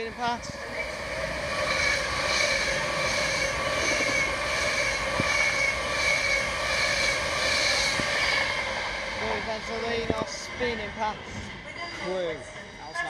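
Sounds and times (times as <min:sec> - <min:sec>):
train wheels rushing on rail: 0:00.0 - 0:12.2.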